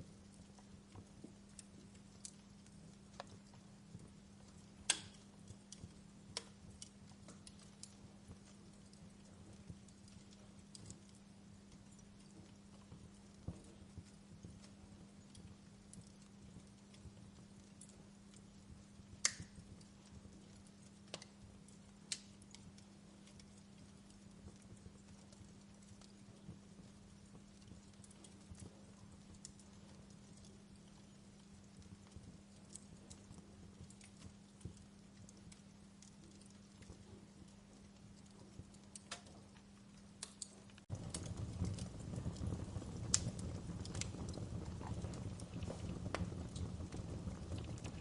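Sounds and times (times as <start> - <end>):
faint low hum: 0.0 - 48.0
wood fire crackling: 0.0 - 48.0.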